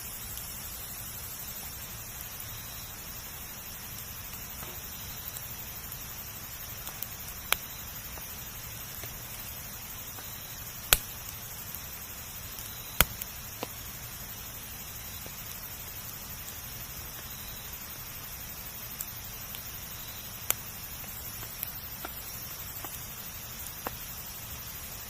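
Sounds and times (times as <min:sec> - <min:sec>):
campfire hissing: 0:00.0 - 0:25.0
wood popping and crackling: 0:00.0 - 0:25.0.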